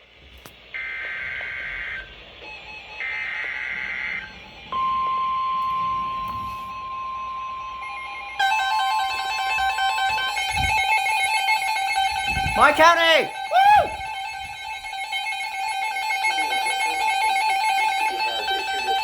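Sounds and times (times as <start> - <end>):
screechy digital data tones: 0.7 - 19.0.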